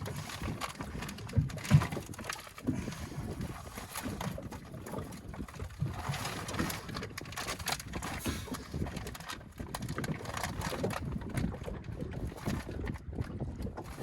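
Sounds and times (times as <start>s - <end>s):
water slapping boat hull: 0.0s - 14.0s
wind buffeting microphone: 0.0s - 14.0s.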